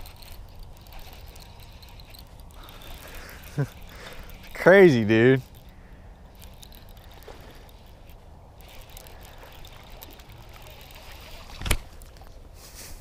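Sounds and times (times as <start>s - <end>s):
fishing reel whirring: 0.0s - 12.6s
faint splashing: 0.0s - 12.8s.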